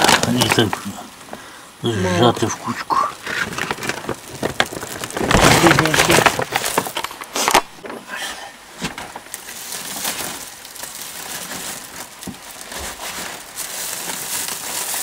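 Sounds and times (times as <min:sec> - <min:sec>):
plastic sheeting crinkling: 0:00.0 - 0:08.1, 0:08.7 - 0:15.0
small crackles: 0:00.0 - 0:15.0.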